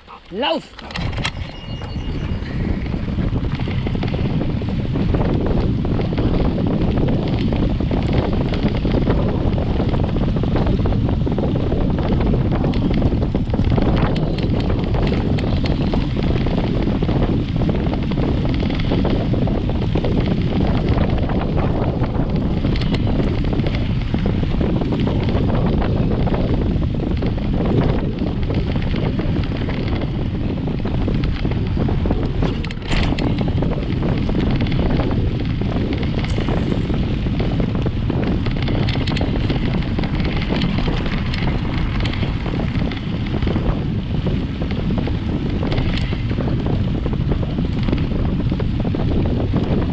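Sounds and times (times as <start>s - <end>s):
wind buffeting microphone: 0.0s - 49.9s
bike tyre rolling on dirt: 0.8s - 49.9s.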